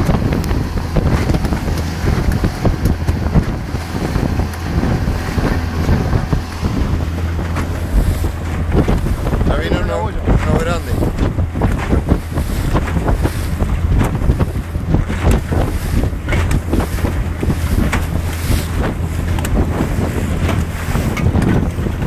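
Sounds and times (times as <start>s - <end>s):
hull slapping on waves: 0.0s - 22.0s
low engine rumble: 0.0s - 22.0s
wind buffeting microphone: 0.0s - 22.0s.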